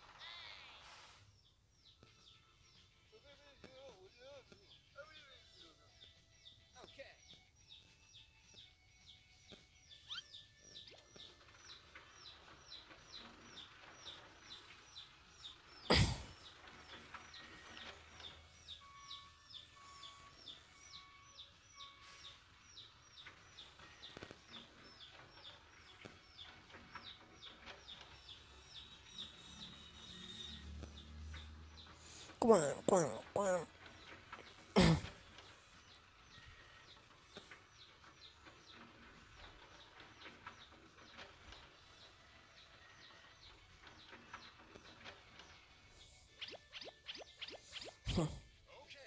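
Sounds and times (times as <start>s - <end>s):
small bird chirping: 0.2s - 49.0s.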